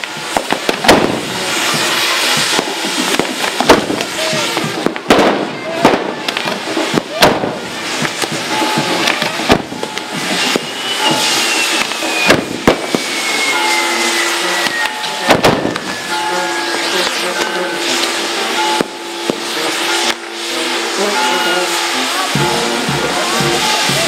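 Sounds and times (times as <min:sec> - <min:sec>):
falling firework whistle: 0:00.0 - 0:24.0
fireworks bangs: 0:00.0 - 0:24.0.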